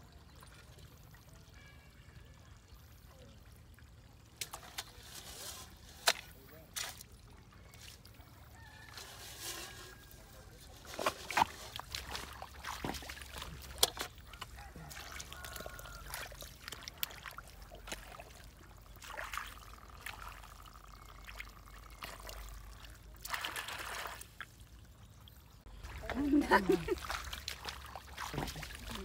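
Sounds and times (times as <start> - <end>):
eels slithering in water: 4.3 - 24.6, 25.7 - 29.0.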